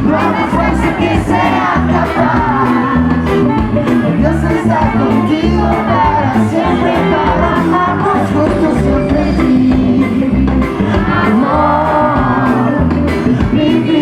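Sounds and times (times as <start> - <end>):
bass guitar: 0.0 - 14.0
drums: 0.0 - 14.0
lead singer singing: 0.0 - 14.0.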